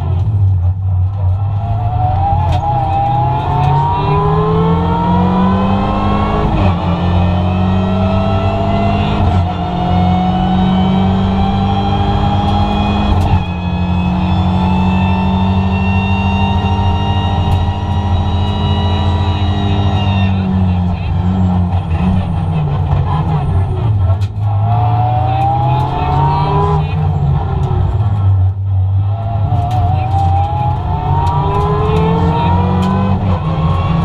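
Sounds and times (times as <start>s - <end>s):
car engine accelerating hard: 0.0s - 34.0s.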